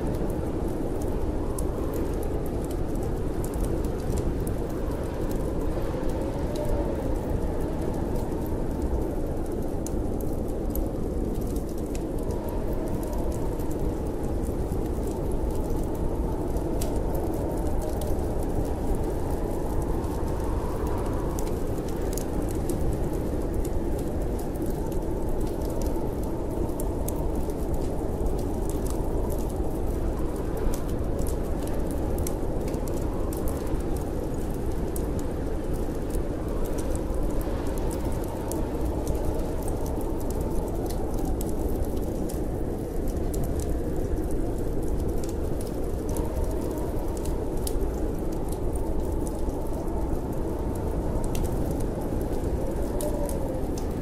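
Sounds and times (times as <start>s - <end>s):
fireplace crackling and popping: 0.0s - 54.0s
storm wind rushing: 0.0s - 54.0s.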